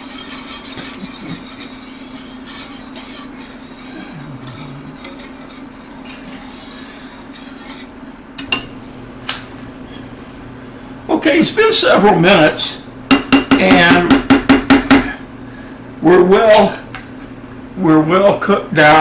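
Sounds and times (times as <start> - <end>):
spoon stirring and scraping pan: 0.0 - 12.5, 13.1 - 19.0.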